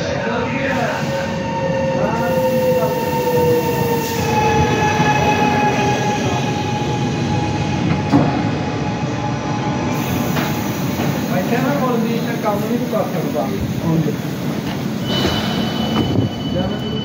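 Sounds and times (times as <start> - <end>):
train wheels rumbling on rails: 0.0 - 17.0
train brakes whining: 0.5 - 8.8, 9.8 - 17.0.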